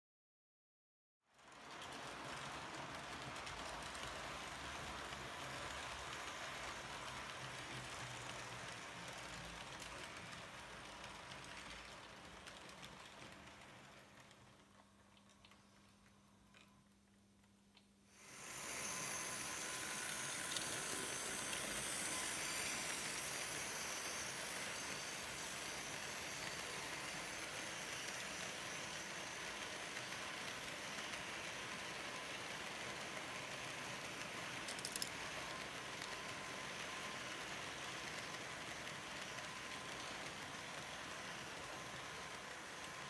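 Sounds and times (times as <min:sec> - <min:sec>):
model train wagons rattling: 0:01.4 - 0:16.0, 0:18.8 - 0:43.0.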